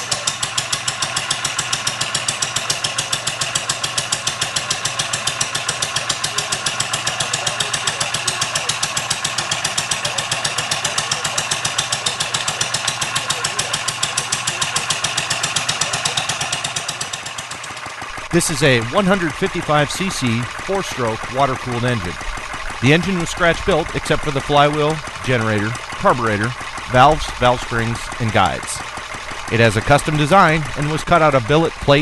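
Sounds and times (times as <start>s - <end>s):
single-cylinder engine idling: 0.0s - 32.0s.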